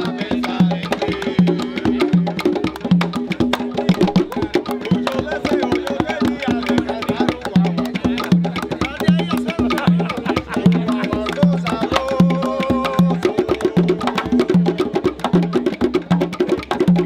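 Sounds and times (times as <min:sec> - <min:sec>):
conga drums playing: 0:00.0 - 0:17.0.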